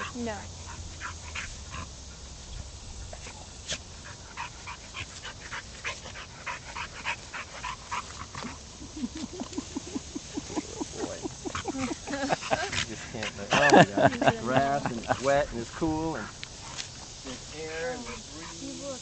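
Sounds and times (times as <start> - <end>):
dog panting: 0.0 - 19.0
dog sniffing: 0.0 - 19.0.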